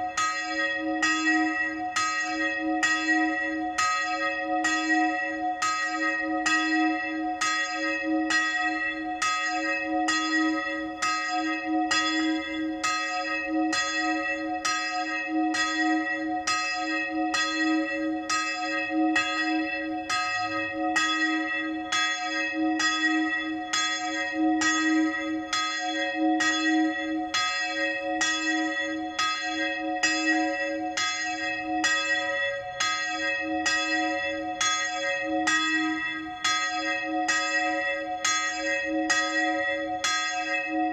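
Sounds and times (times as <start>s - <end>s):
church bell ringing: 0.0s - 40.9s.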